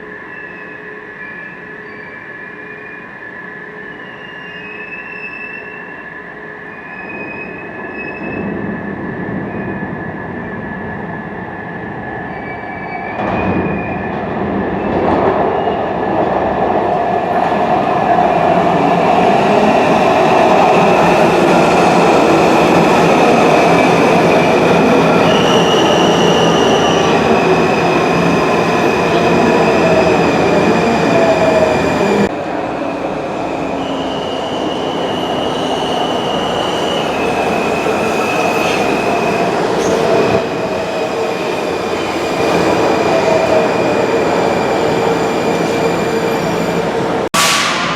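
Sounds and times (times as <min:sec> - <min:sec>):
train rumbling: 0:08.2 - 0:47.9.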